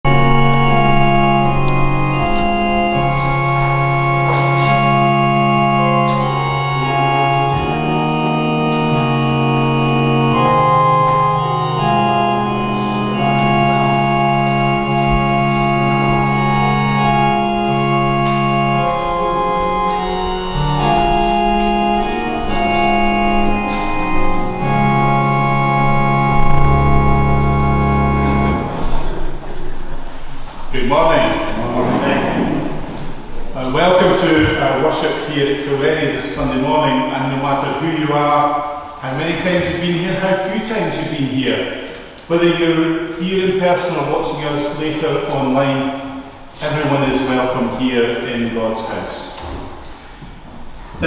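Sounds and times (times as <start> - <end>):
church organ playing chords: 0.0 - 51.0.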